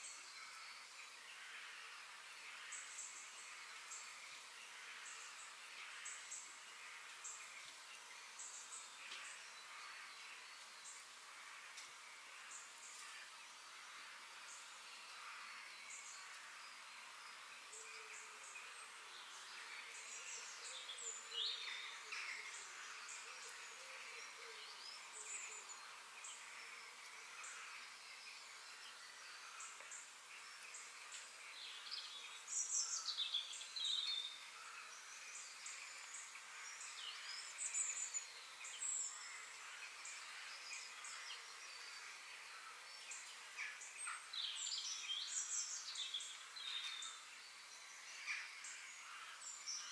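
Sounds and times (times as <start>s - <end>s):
forest birds chirping: 0.0s - 49.9s.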